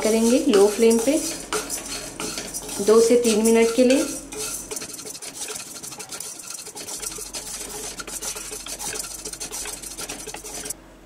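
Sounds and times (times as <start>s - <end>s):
spatula scraping spices in pan: 0.0s - 10.8s.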